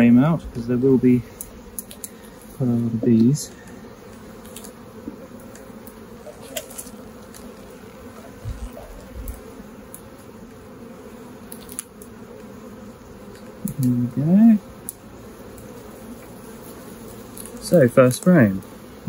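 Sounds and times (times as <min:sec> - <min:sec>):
honeybee colony humming: 0:00.0 - 0:19.0.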